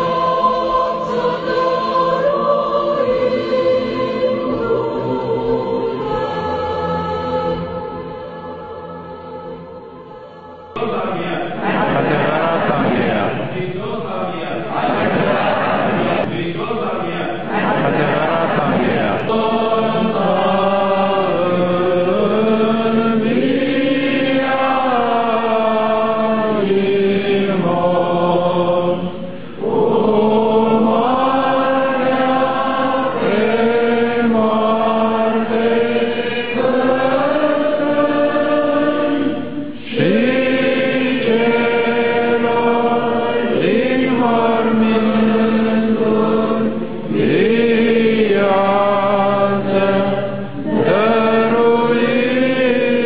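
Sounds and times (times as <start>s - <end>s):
choir chanting slow phrases: 0.0s - 53.0s.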